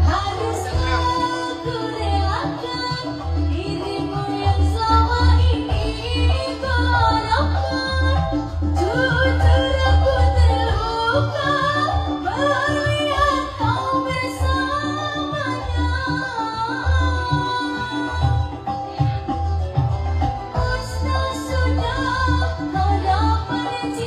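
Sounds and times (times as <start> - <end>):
bass line: 0.0 - 24.0.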